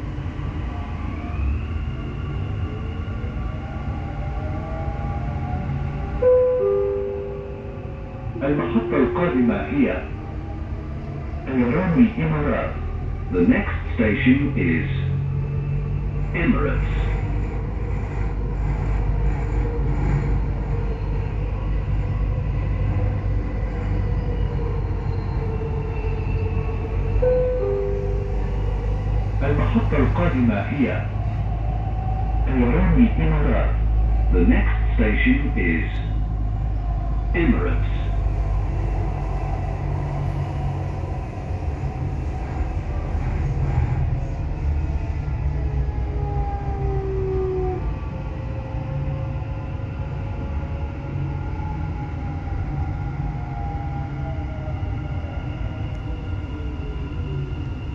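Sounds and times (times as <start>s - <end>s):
train rumble inside carriage: 0.0s - 57.9s.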